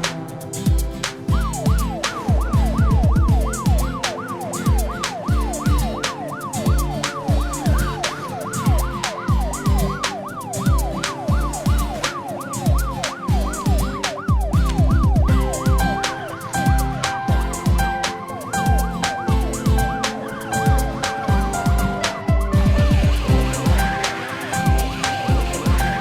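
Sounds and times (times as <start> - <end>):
background music with drum beat: 0.0 - 26.0
yelping emergency siren: 0.0 - 26.0.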